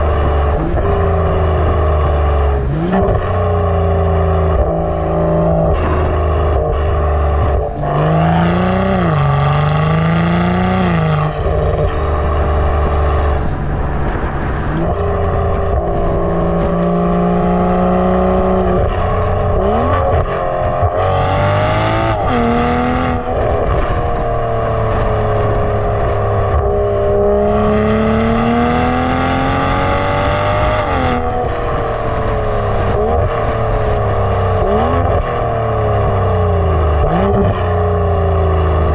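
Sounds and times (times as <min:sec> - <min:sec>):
car engine revving through exhaust: 0:00.0 - 0:38.9.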